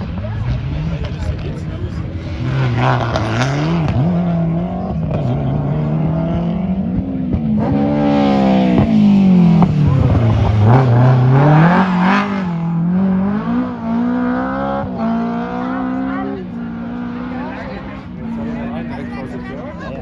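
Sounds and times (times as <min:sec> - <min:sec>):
race car engine passing: 0:00.0 - 0:20.0.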